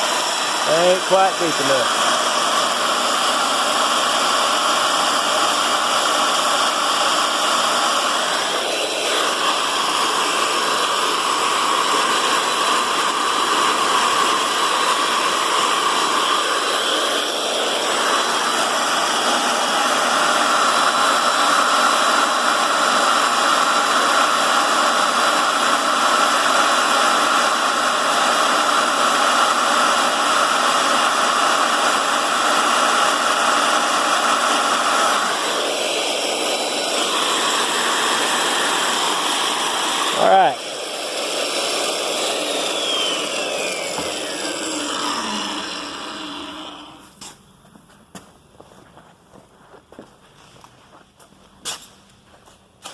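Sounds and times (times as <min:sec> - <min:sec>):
drill cutting into steel: 0:00.0 - 0:47.2.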